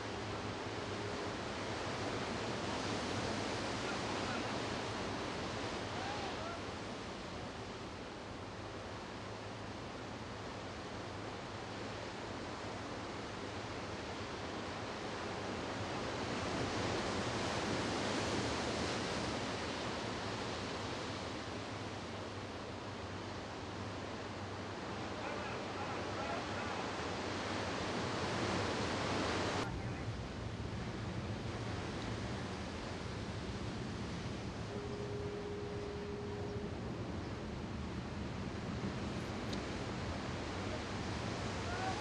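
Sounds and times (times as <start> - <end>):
steady rushing outdoor noise: 0.0 - 42.0.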